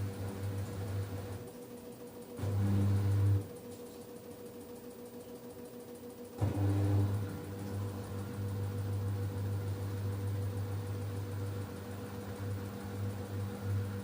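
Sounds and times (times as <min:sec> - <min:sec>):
washing machine spinning hum: 0:00.0 - 0:14.0.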